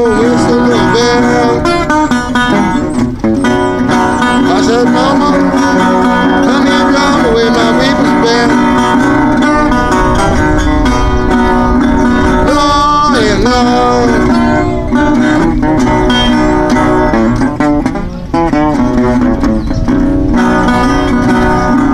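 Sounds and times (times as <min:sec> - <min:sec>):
acoustic guitar playing blues: 0:00.0 - 0:21.9.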